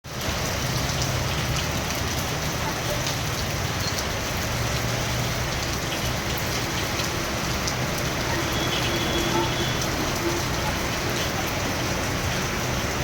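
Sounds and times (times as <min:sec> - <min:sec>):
heavy rain falling: 0:00.0 - 0:13.0
raindrops ticking on surfaces: 0:00.0 - 0:13.0.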